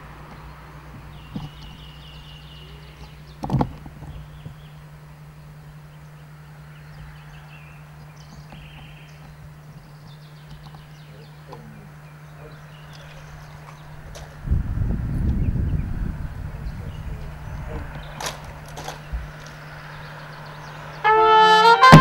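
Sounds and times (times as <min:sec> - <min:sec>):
steady low hum: 0:00.0 - 0:21.1
birds chirping: 0:00.0 - 0:22.0.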